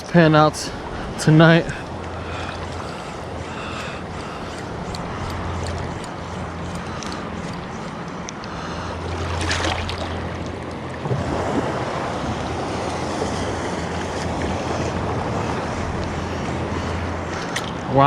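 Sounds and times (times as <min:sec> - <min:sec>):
ocean surf washing: 0:00.0 - 0:18.0.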